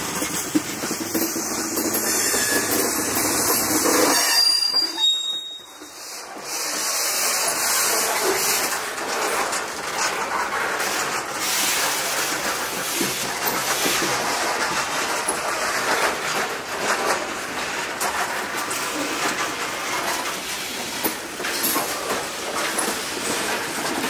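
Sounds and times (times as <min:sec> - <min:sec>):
train wheels rushing on rails: 0:00.0 - 0:24.0.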